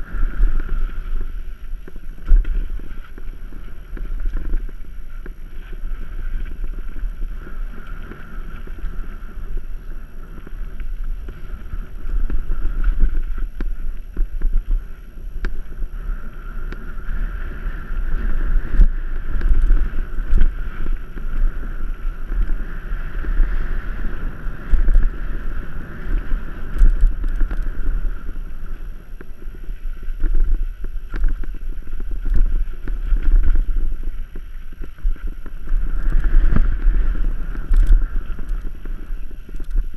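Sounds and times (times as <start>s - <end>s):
bike rattles and clicks: 0.0s - 39.9s
wind buffeting microphone: 0.0s - 39.9s.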